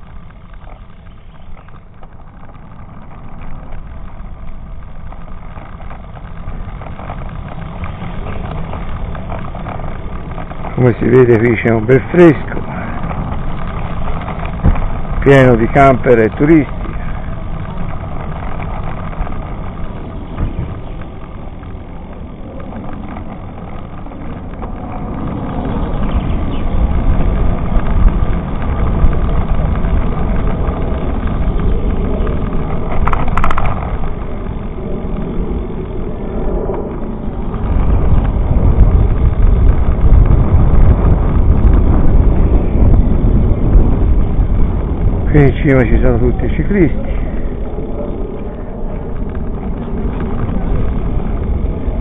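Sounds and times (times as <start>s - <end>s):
tyre noise on road: 0.0s - 52.0s
wind rumbling on microphone: 0.0s - 52.0s.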